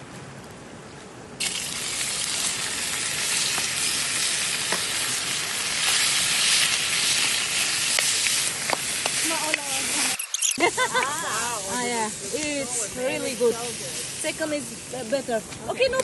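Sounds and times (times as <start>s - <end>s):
fire crackles: 0.2s - 16.0s
food sizzling over fire: 1.4s - 16.0s.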